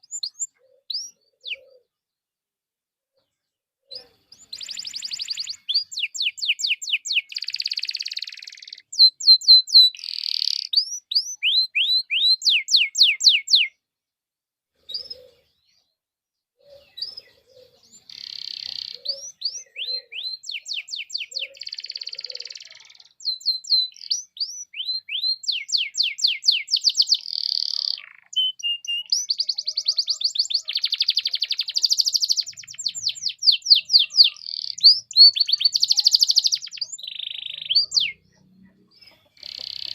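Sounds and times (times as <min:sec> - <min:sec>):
canary singing trills: 0:00.0 - 0:01.9, 0:03.9 - 0:13.8, 0:14.8 - 0:16.0, 0:16.6 - 0:39.9.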